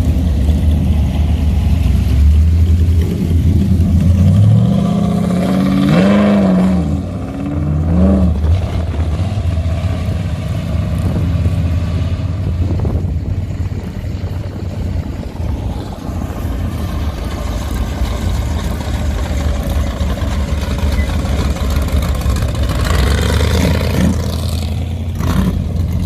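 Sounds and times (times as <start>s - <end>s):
car engine revving: 0.0s - 26.0s
low engine rumble: 0.0s - 26.0s.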